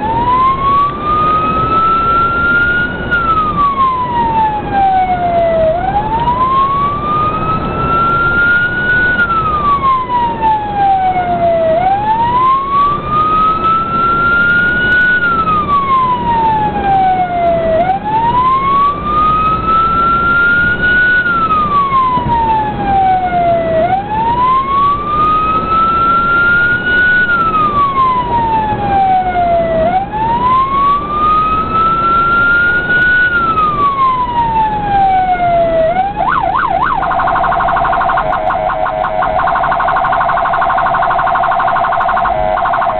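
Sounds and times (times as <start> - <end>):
road noise: 0.0 - 42.9
siren wailing: 0.0 - 42.9
vehicle engine: 0.0 - 42.9.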